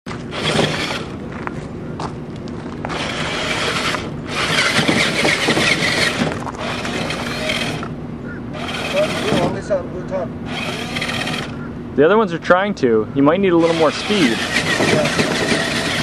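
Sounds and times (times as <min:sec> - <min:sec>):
electric drive grinding and hissing: 0:00.1 - 0:01.6, 0:02.7 - 0:12.2, 0:13.4 - 0:16.0
steady low hum: 0:00.1 - 0:16.0.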